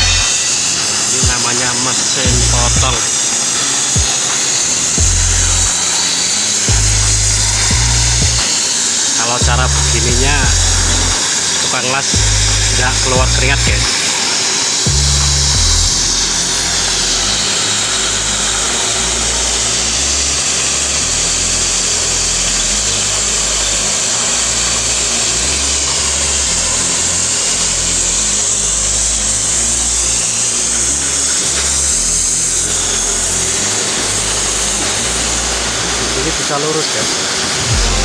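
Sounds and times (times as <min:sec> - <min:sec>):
background music with deep bass: 0:00.0 - 0:36.4, 0:37.5 - 0:38.0
cutting torch gas jet hissing: 0:00.0 - 0:38.0.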